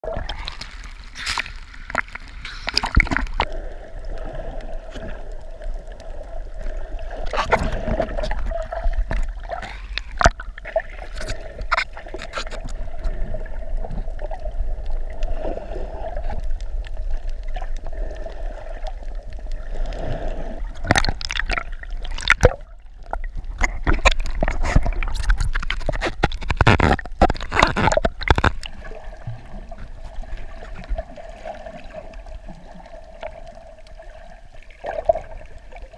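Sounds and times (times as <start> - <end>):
seawater sloshing and gurgling: 0.0 - 35.9
water splashes: 0.0 - 35.9.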